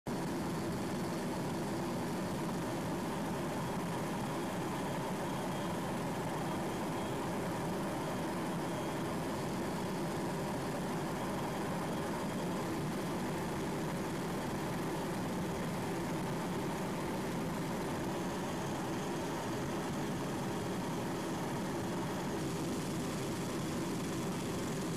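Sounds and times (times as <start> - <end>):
helicopter drone: 0.1 - 24.9.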